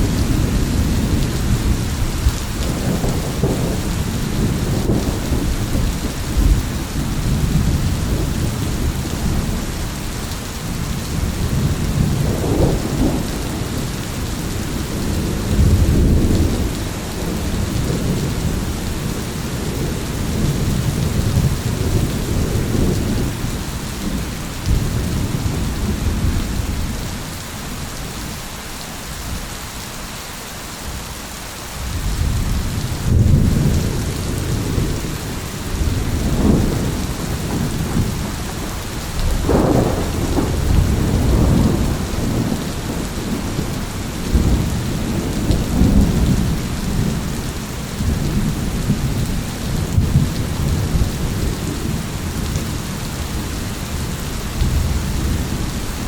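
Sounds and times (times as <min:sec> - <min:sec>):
rolling thunder: 0:00.0 - 0:09.9, 0:10.6 - 0:28.2, 0:31.8 - 0:56.0
heavy rain: 0:00.0 - 0:56.0.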